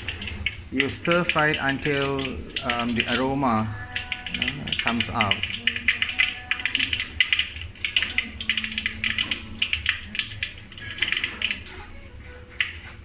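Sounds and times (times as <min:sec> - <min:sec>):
spices crackling in hot oil: 0:00.0 - 0:13.0.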